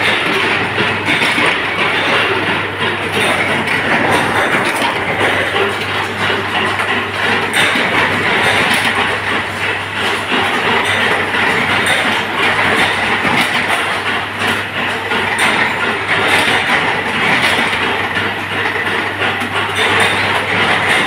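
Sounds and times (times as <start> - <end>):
machine rushing and rattling: 0.0 - 21.0.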